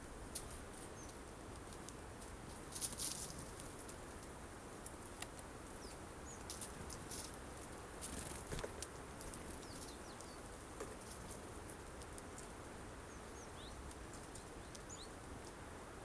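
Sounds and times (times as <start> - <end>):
birds pecking at feeder: 0.3 - 15.6.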